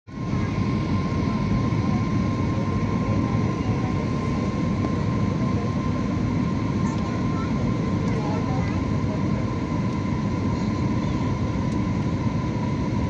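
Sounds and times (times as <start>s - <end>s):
jet engine rumble: 0.1s - 13.0s
thin steady whine: 0.1s - 13.0s.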